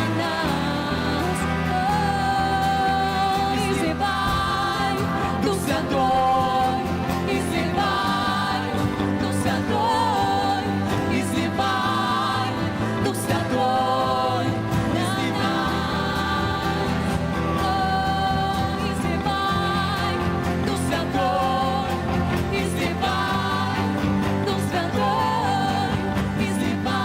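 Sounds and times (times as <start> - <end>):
person singing with vibrato: 0.0 - 27.0.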